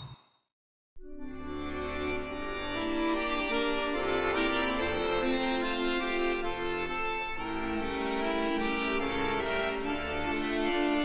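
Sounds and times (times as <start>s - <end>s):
accordion music: 1.2s - 11.0s.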